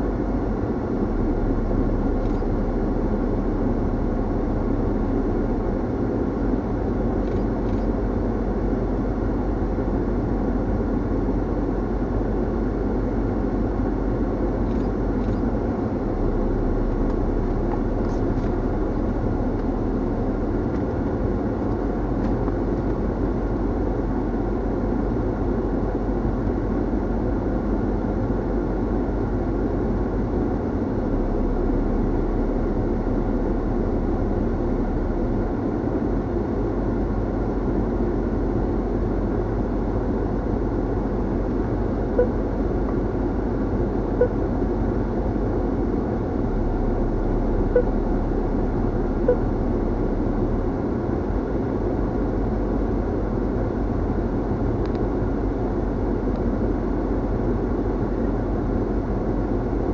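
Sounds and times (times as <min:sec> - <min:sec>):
engine hum: 0:00.0 - 0:59.9.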